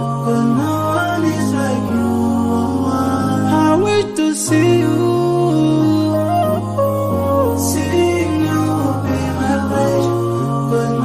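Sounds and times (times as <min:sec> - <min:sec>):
slow sliding melody: 0:00.0 - 0:11.0.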